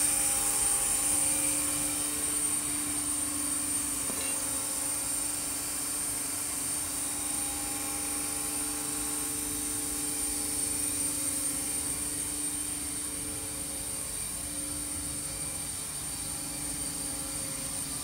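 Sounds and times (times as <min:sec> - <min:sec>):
high-pitched whine: 0:00.0 - 0:18.0
mechanical hum of press: 0:00.0 - 0:18.0.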